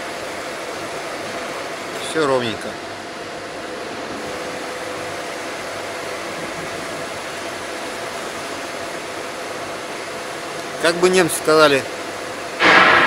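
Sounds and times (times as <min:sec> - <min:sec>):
constant humming tones: 0:00.0 - 0:13.0
workshop machinery whooshing hum: 0:00.0 - 0:13.0.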